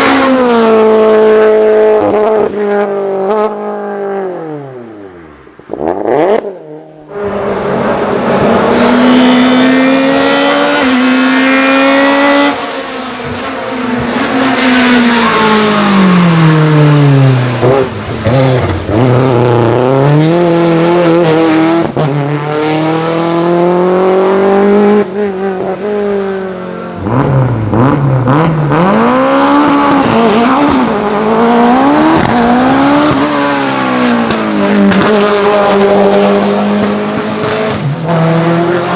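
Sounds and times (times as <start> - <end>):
race car engines at high revs: 0.0 - 5.0, 5.6 - 38.9.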